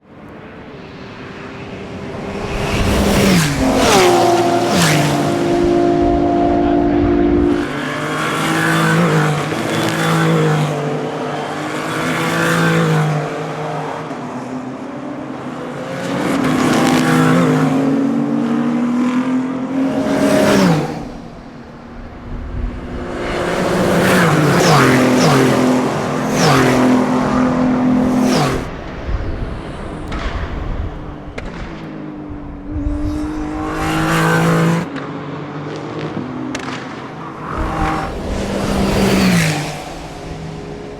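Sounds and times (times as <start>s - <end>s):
racing cars passing: 0.0s - 40.9s.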